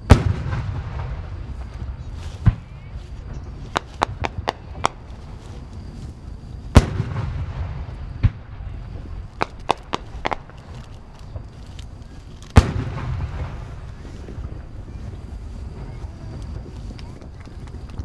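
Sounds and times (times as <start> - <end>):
fireworks bursting with sharp bangs: 0.0 - 18.0
rolling echo: 0.0 - 18.0.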